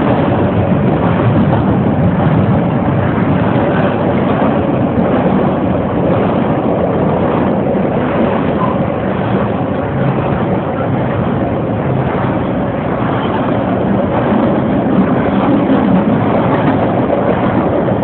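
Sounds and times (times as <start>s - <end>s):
freight train cars rolling: 0.0s - 18.0s.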